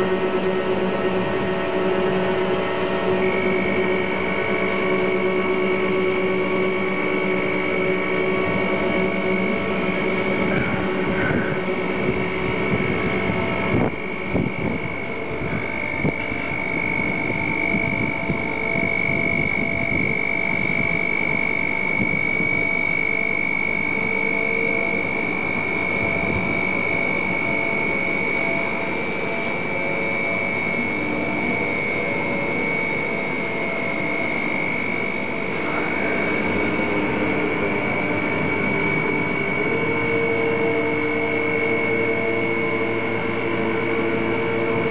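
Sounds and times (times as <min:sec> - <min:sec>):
crane hoist high-pitched whine: 0:00.0 - 0:44.9
low machine hum: 0:00.0 - 0:44.9.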